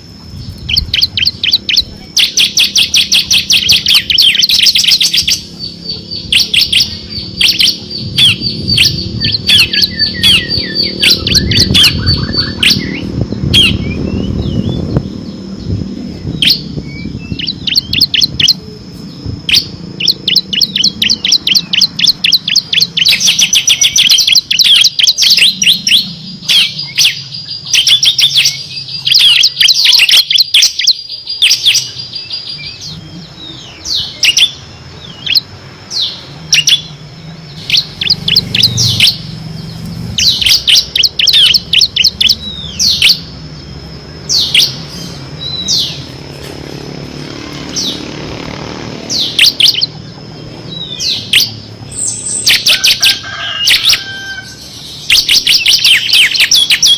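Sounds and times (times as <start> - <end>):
bird singing rapid high chirps: 0.0 - 56.9.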